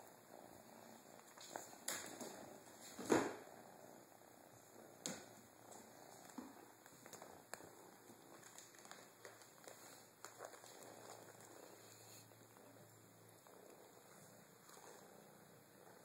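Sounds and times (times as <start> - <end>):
kitten purring: 0.0 - 16.0.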